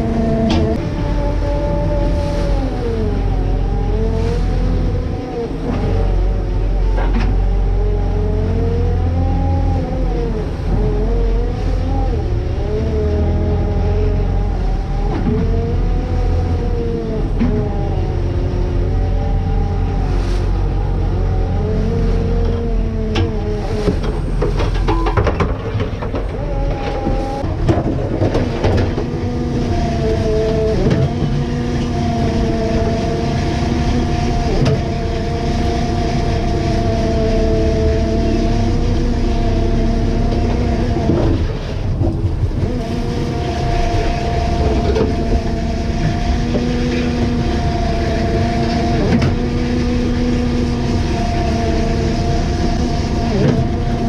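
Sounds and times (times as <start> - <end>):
boat engine droning hum: 0.0 - 54.0.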